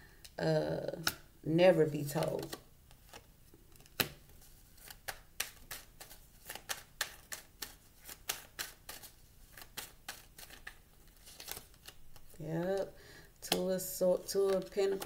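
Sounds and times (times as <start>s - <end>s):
cards being shuffled: 2.0s - 15.0s.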